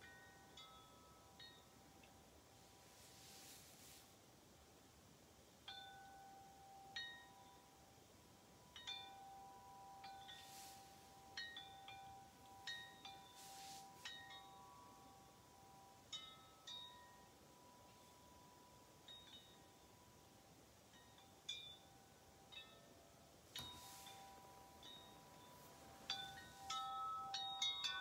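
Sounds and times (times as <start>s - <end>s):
metal wind chime ringing: 0.0s - 3.4s, 5.7s - 7.9s, 8.6s - 28.0s.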